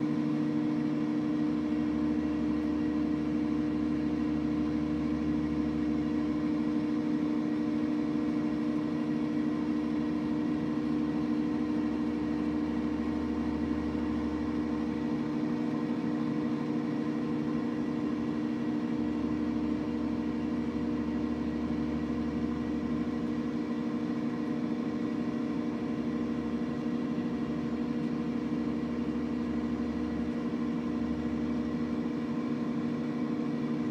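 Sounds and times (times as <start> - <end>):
microwave oven humming: 0.0 - 33.9.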